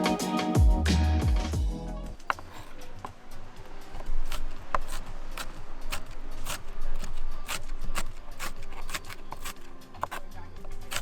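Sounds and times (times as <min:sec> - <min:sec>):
faint background music: 0:00.0 - 0:11.0
rhythmic scraping strokes: 0:00.0 - 0:11.0.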